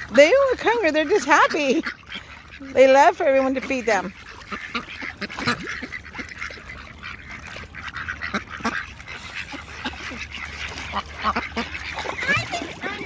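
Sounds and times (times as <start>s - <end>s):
ducks quacking: 0.0s - 13.0s.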